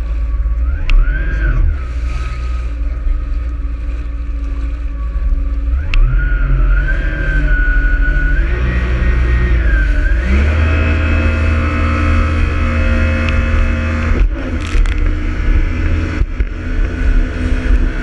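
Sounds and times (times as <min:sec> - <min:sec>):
jet ski engine whining: 0:00.0 - 0:18.0.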